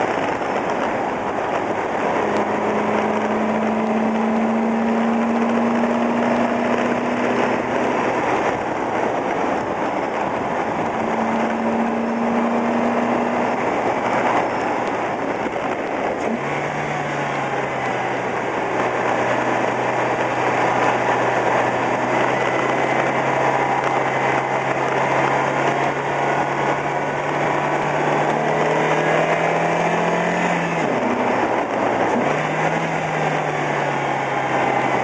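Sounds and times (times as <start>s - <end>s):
car engine hum: 0.0s - 35.0s
tyre and wind noise: 0.0s - 35.0s.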